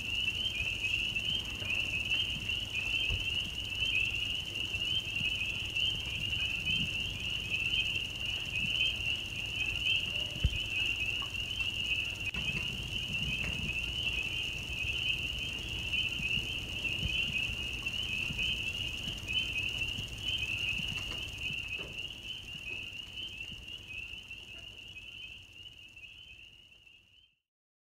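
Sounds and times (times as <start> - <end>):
frogs peeping chorus: 0.0 - 27.4.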